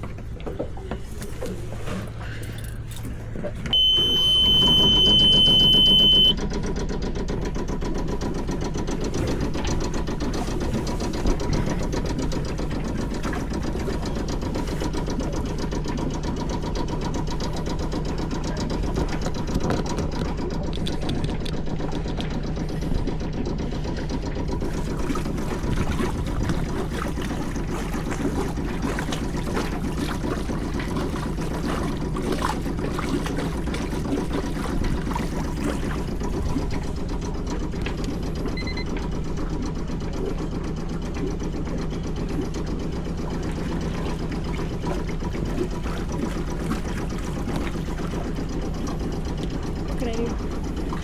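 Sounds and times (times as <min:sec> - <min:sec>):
diesel engine idling: 0:02.1 - 0:51.0.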